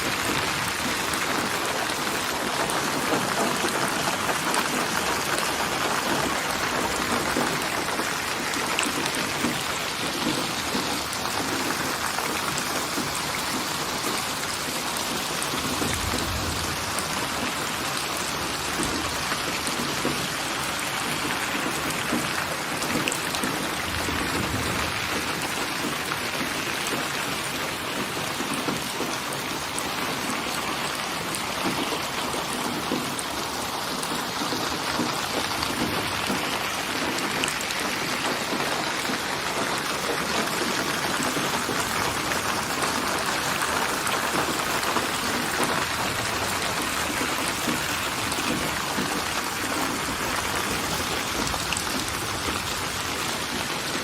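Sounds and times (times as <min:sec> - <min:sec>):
rain drops pattering: 0:00.0 - 0:54.0
rain hiss: 0:00.0 - 0:54.0.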